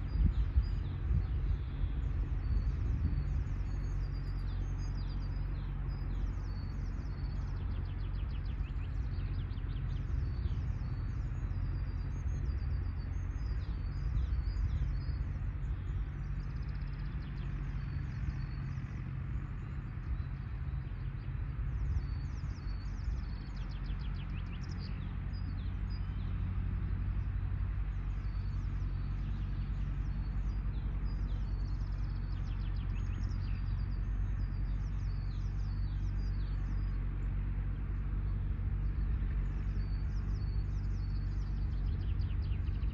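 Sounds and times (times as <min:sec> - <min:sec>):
bird chirping: 0:00.0 - 0:42.9
distant tractor engine droning: 0:00.0 - 0:42.9.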